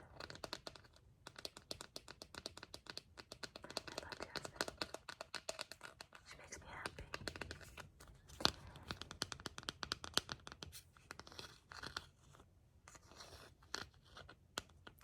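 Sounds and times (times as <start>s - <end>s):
crackling and scratching: 0.0s - 15.0s.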